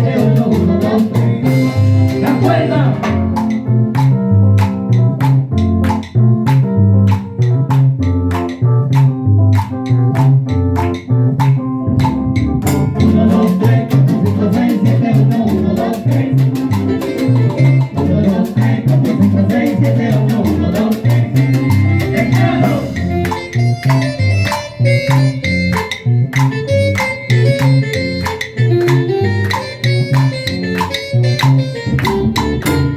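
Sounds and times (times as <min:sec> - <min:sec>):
latin dance band playing: 0:00.0 - 0:32.9.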